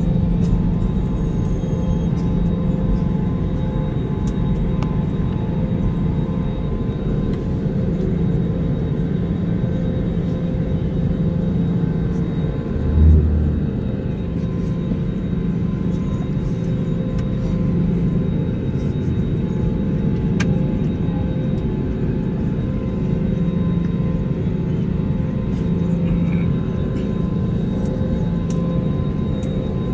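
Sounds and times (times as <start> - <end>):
jet engines rumbling in cabin: 0.0 - 29.9.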